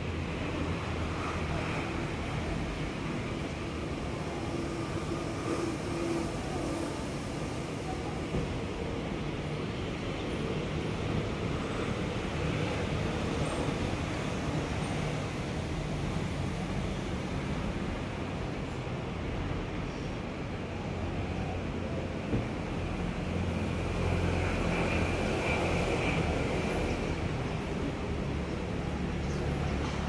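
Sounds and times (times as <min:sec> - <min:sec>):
low rumble of road traffic: 0:00.0 - 0:30.0.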